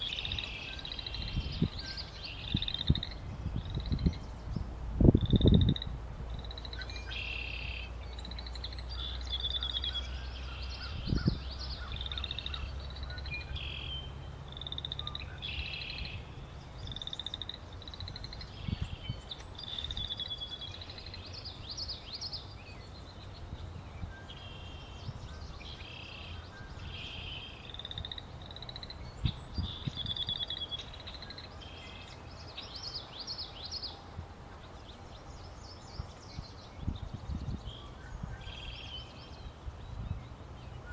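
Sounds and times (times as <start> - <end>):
frogs and birds trilling: 0.0 - 40.9.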